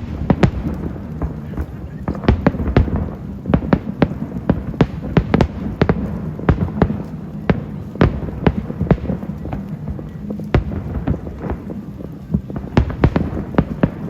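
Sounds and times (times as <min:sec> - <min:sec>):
fireworks bangs: 0:00.0 - 0:14.0
steady low rumble: 0:00.0 - 0:14.0.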